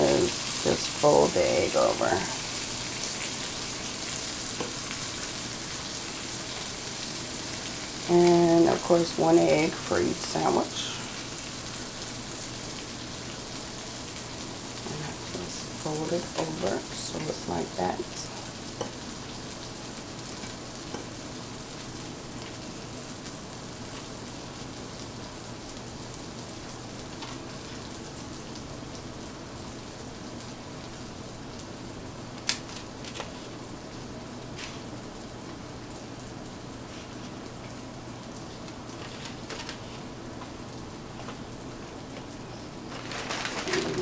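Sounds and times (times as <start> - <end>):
sausages sizzling in a frying pan: 0.0 - 44.0.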